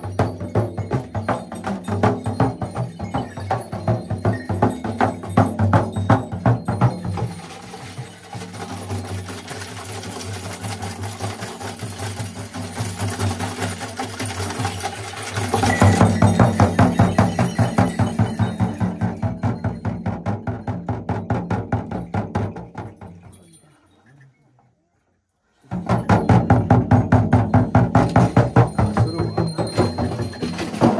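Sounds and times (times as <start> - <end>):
frame drum beaten fast: 0.0 - 23.2, 25.7 - 30.9.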